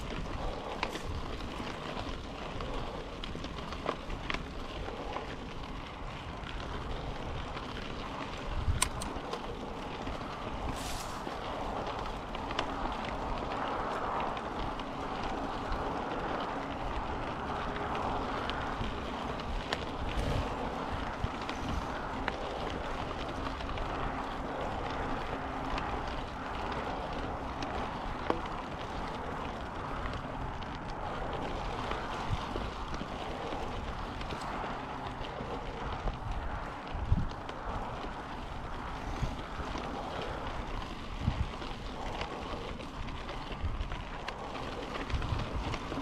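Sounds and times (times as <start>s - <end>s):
gravel and bike rattles: 0.0s - 46.0s
tyre noise on dirt: 0.0s - 46.0s
wind on microphone: 0.0s - 46.0s.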